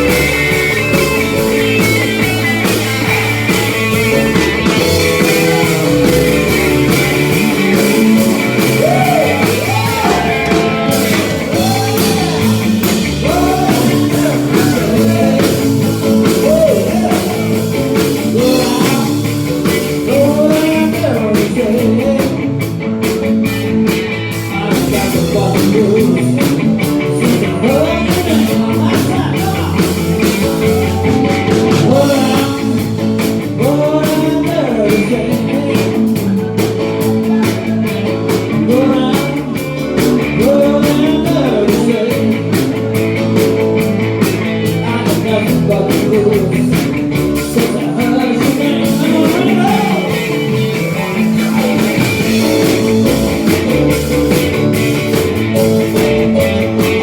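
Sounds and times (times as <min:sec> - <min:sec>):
person singing: 0:00.0 - 0:57.0
rock music with guitar: 0:00.0 - 0:57.0.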